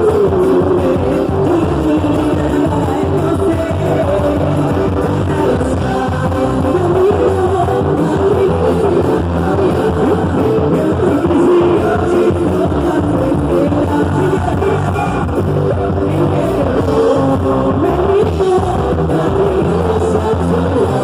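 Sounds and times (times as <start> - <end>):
loud music with singing: 0.0 - 21.0.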